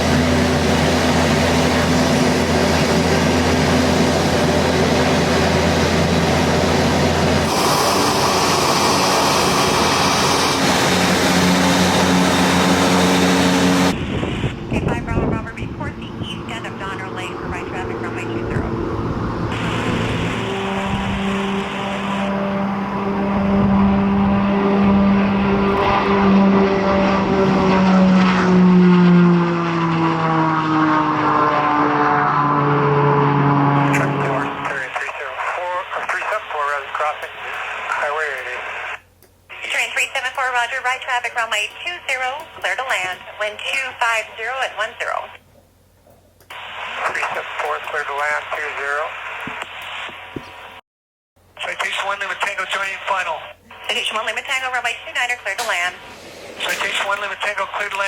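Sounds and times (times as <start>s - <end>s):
turboprop engines running: 0.0s - 50.8s, 51.4s - 58.0s.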